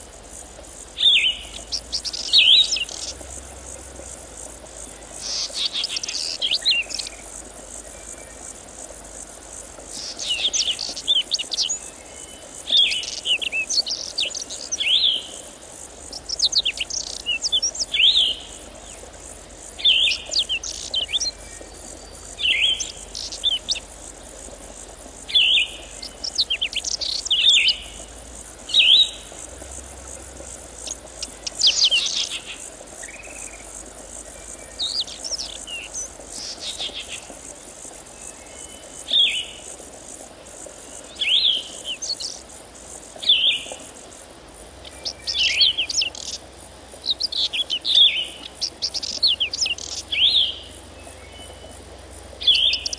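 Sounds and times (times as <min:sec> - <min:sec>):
steady high-pitched hiss: 0:00.0 - 0:52.9
birds chirping: 0:01.0 - 0:08.8, 0:09.8 - 0:24.6, 0:25.2 - 0:37.6, 0:40.6 - 0:42.4, 0:44.8 - 0:52.9.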